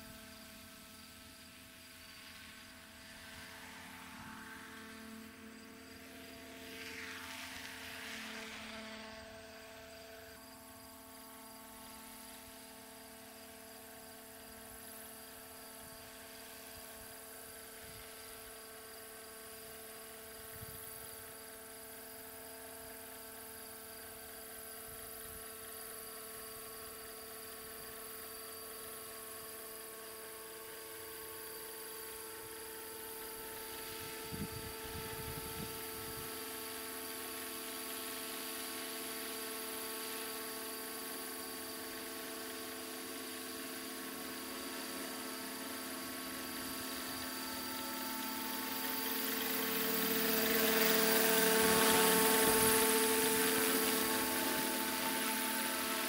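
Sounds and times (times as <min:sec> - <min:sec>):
model helicopter whine: 0:00.0 - 0:56.0.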